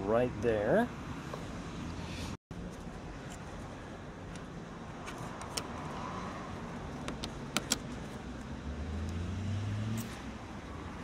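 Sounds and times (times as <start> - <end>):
engine hum: 1.8 - 11.0.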